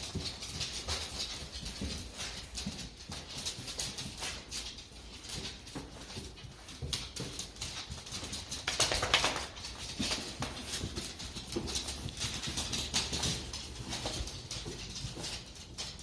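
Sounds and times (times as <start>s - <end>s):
dog moving about: 0.0s - 16.0s.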